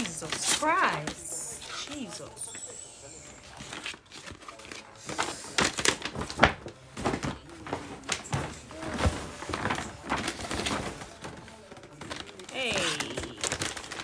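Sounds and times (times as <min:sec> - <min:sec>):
paper bag rustling and crinkling: 0:00.0 - 0:02.5, 0:03.3 - 0:14.0.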